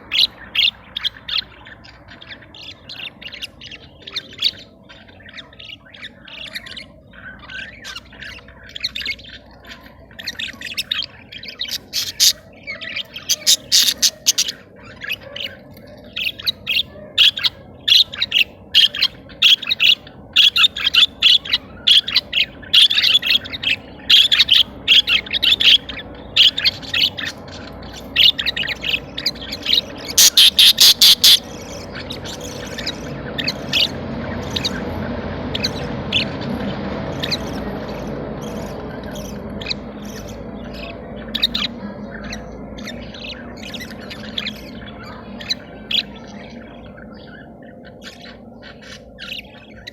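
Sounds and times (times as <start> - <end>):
budgerigars chattering and chirping: 0.0 - 49.9.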